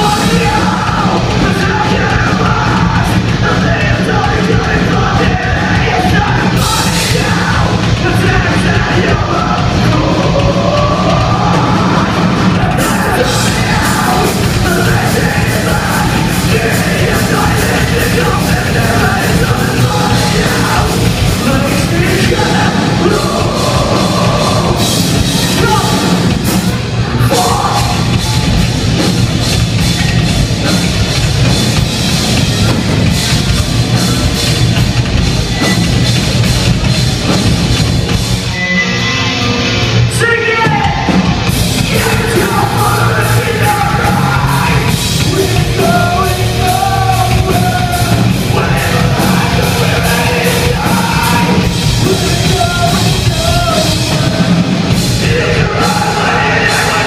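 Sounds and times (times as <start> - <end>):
lead vocal singing: 0.0 - 31.9, 40.1 - 57.0
bass guitar: 0.0 - 57.0
drums: 0.0 - 57.0
electric guitars: 0.0 - 57.0.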